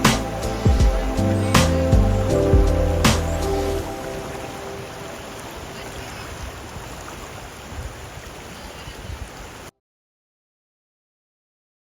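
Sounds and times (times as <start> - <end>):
river water rushing: 0.0 - 9.7.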